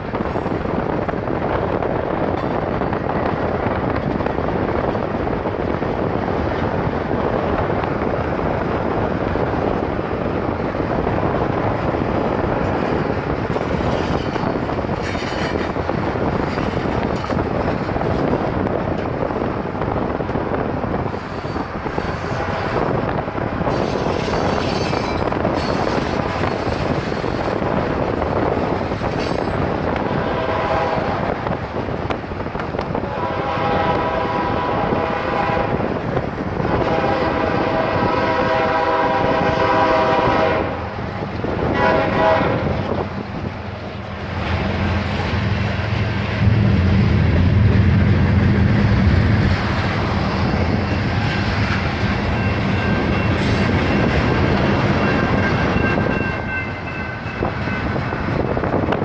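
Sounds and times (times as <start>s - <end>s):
freight train rumbling on rails: 0.0s - 59.0s
wind and road noise: 0.0s - 59.0s.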